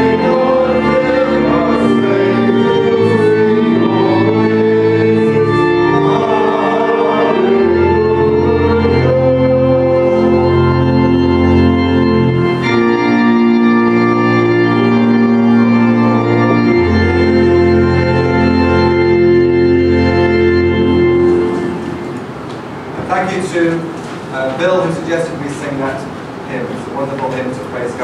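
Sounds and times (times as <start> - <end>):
church organ chords: 0.0 - 23.9.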